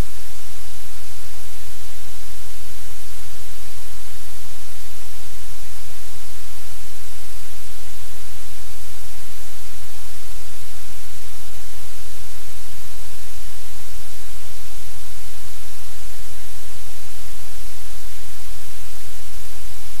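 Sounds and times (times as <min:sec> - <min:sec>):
static hiss: 0:00.0 - 0:20.0.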